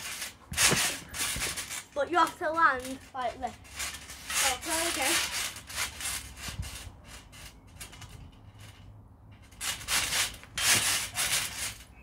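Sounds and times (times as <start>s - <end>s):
trampoline rustling and thumps: 0.0s - 12.0s.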